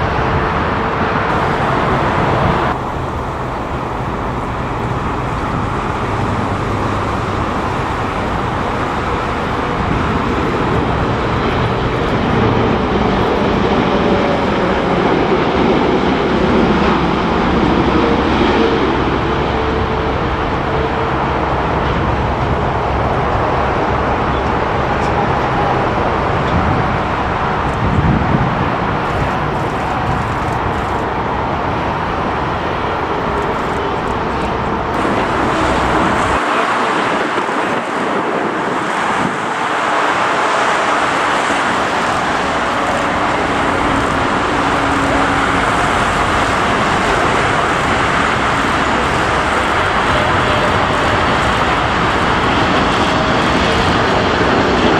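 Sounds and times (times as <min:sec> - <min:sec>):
storm wind buffeting microphone: 0:00.0 - 0:54.9.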